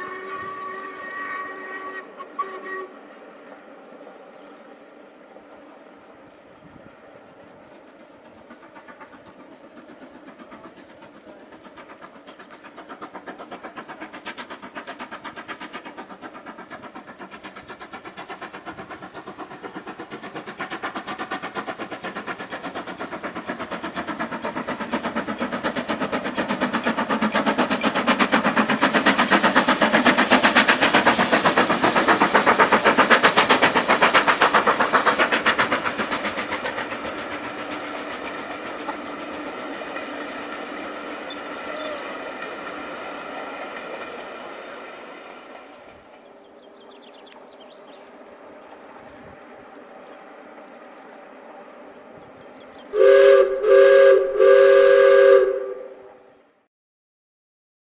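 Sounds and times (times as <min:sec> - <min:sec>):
rumble of train carriages: 0:00.0 - 0:56.3
steam locomotive chuffing: 0:00.0 - 0:56.6.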